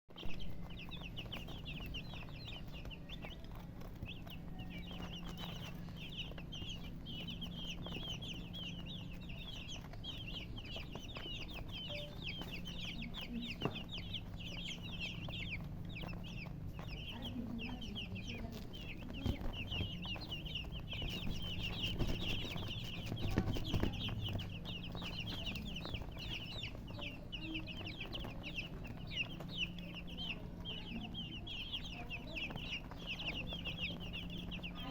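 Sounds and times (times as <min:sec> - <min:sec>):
baby chickens peeping: 0:00.1 - 0:34.9
steady low hum: 0:00.1 - 0:34.9.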